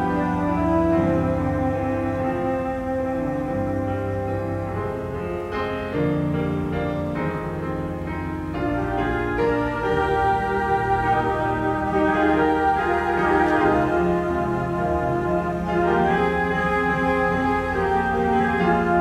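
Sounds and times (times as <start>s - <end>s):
slow instrumental music: 0.0s - 19.0s.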